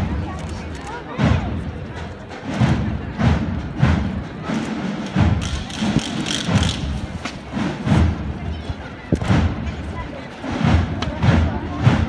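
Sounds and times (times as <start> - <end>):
drums beating slowly: 1.1 - 12.0.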